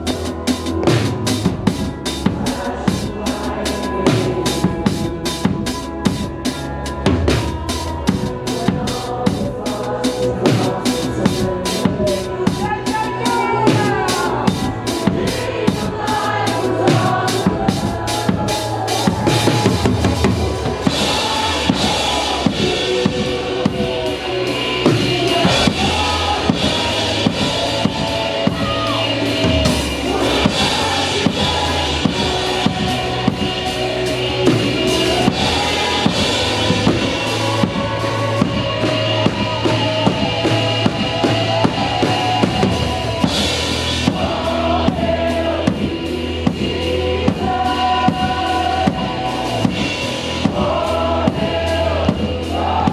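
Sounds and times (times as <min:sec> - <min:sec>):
band playing: 0:00.0 - 0:52.9.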